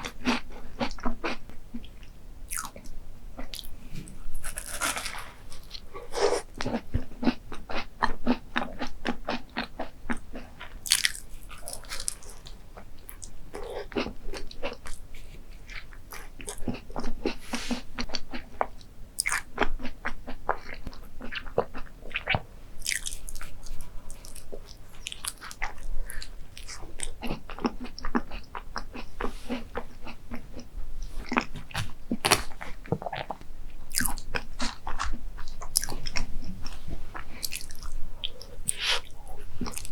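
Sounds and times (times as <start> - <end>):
crisp crunching and chewing: 0.0 - 15.0, 15.6 - 39.9.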